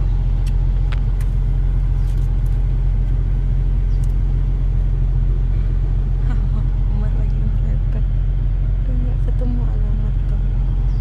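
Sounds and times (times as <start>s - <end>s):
car engine rumbling inside cabin: 0.0s - 11.0s.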